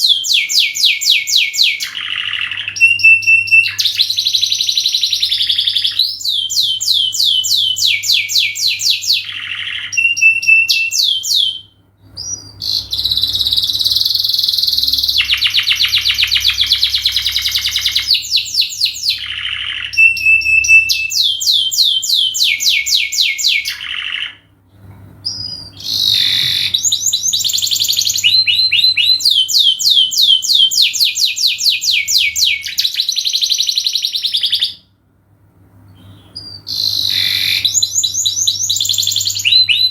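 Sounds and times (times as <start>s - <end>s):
canary singing trills: 0.0s - 24.5s, 25.2s - 35.0s, 35.9s - 39.9s.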